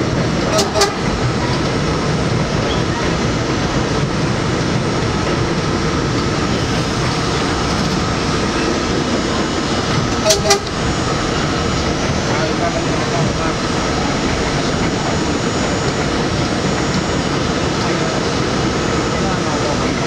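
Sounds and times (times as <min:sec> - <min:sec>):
train rumble and rail noise: 0:00.0 - 0:20.0
train whine: 0:00.0 - 0:20.0.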